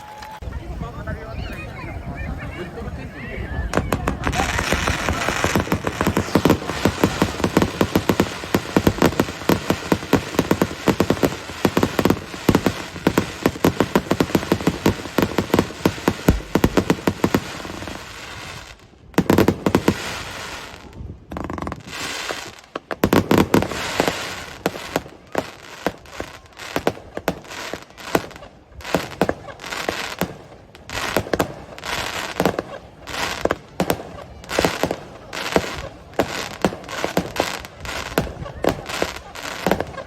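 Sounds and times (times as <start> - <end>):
fireworks crackling volleys: 1.4 - 40.0
fireworks booming: 3.6 - 40.0.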